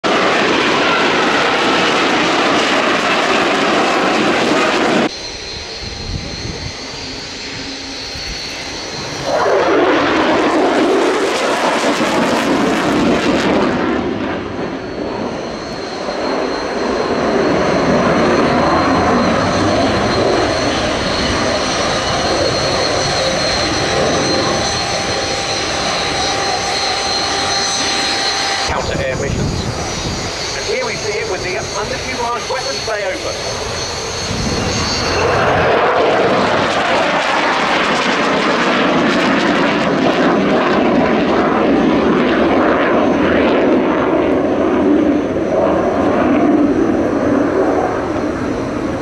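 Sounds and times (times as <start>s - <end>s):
high jet whine: 0.0s - 49.0s
loud jet engine noise: 0.0s - 49.0s
jet fast pass: 0.1s - 49.0s.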